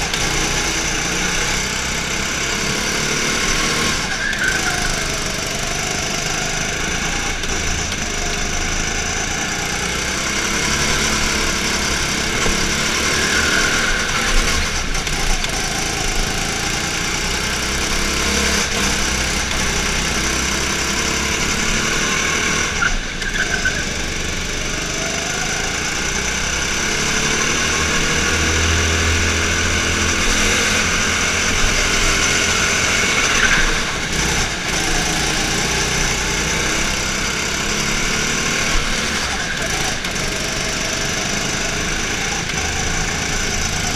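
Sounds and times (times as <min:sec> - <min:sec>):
go-kart engine running hard: 0:00.0 - 0:43.9.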